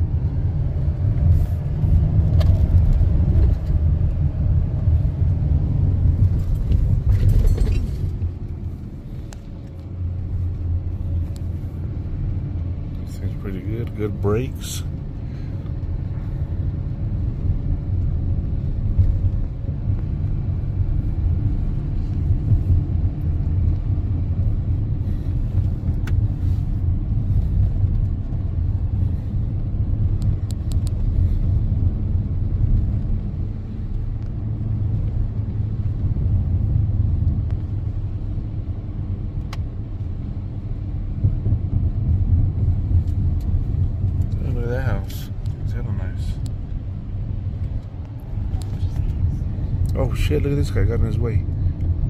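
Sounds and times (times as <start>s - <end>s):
road and engine rumble: 0.0s - 52.0s.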